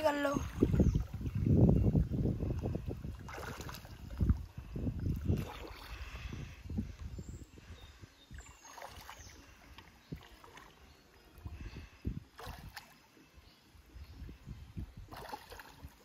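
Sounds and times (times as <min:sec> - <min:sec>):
water sloshing and splashing: 0:00.0 - 0:13.4, 0:14.2 - 0:16.0.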